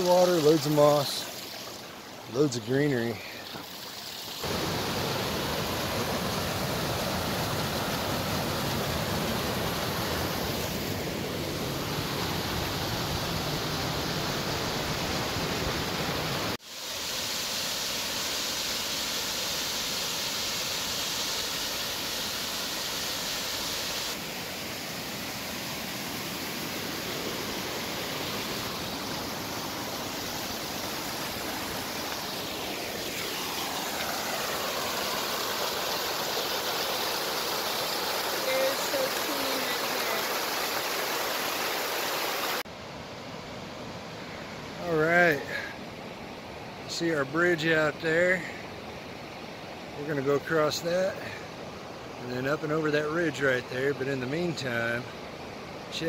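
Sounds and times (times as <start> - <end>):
waterfall rushing water: 0.0 - 56.0.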